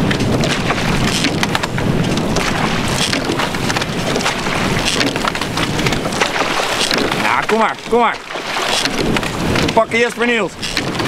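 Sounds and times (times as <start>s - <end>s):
oars knocking in oarlocks: 0.0s - 11.0s
water rushing: 0.0s - 11.0s
wind: 0.0s - 11.0s.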